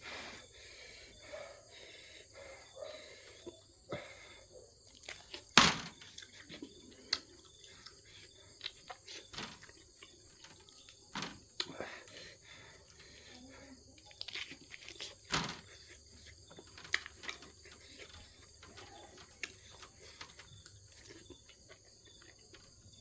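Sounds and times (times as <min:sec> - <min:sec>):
mouth chewing noises: 0:03.0 - 0:23.0.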